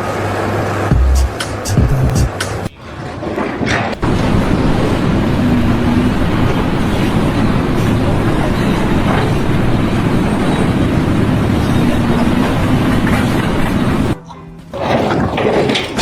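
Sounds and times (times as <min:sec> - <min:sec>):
heavy engine running: 0:00.0 - 0:16.0.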